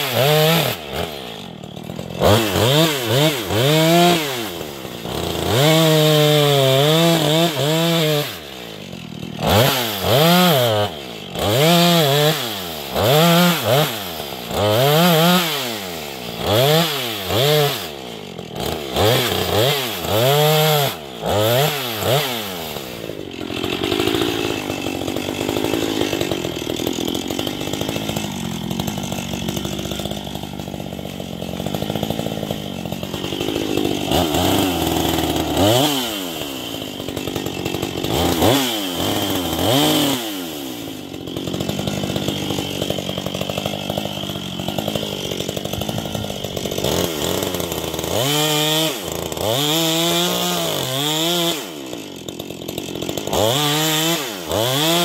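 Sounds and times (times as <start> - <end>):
chainsaw revving and idling: 0.0 - 55.0.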